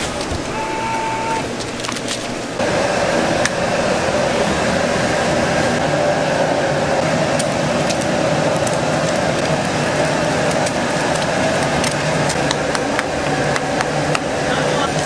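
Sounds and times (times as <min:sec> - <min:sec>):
loud kitchen noise: 0:00.0 - 0:15.0.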